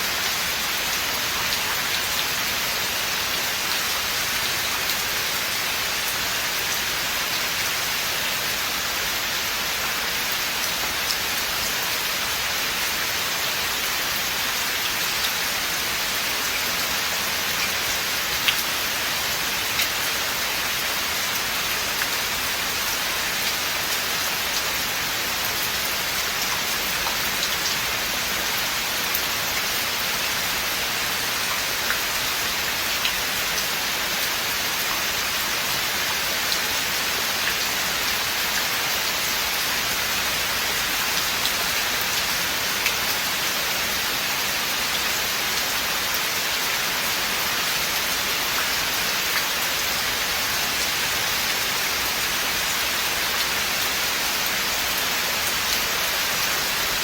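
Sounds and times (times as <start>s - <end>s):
steady rain in forest: 0.0s - 57.0s.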